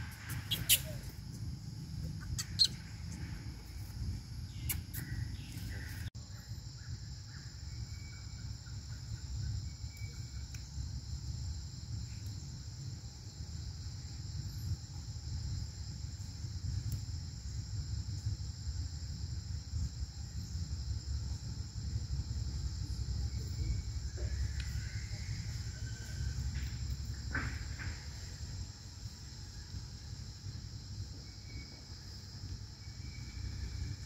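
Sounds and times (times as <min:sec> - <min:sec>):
high-pitched insect drone: 0:00.0 - 0:34.0
low constant rumble: 0:00.0 - 0:34.0.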